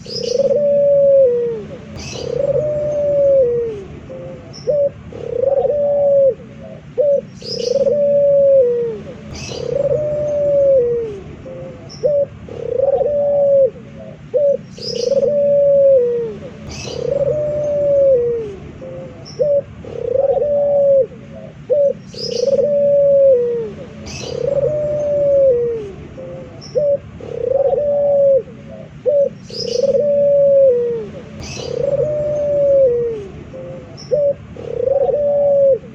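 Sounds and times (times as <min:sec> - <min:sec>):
dove cooing: 0:00.0 - 0:35.9
small birds chirping: 0:00.0 - 0:35.9.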